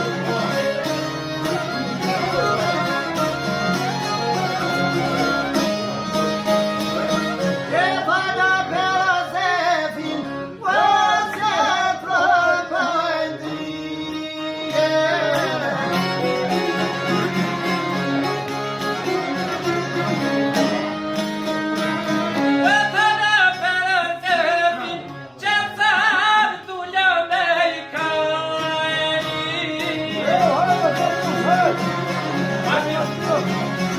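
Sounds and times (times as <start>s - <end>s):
violin: 0.0s - 25.4s, 27.7s - 33.9s
plucked-string accompaniment: 0.0s - 33.9s.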